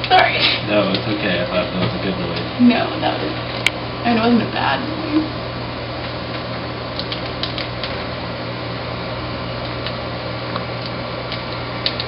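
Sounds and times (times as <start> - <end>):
whirring hum and hiss: 0.0 - 12.0.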